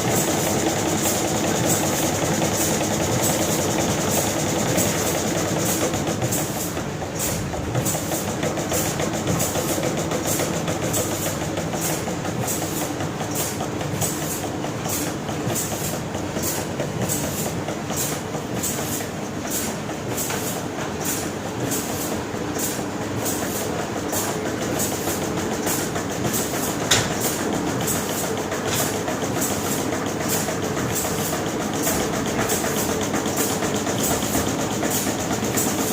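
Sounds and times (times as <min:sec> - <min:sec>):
washing machine running: 0:00.0 - 0:35.9.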